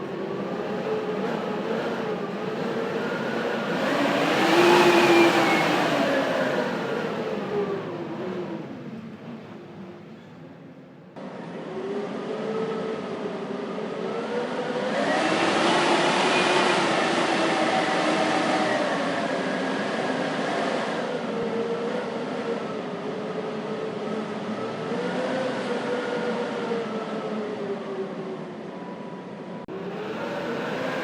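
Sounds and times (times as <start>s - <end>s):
blizzard wind howling: 0.0s - 31.0s.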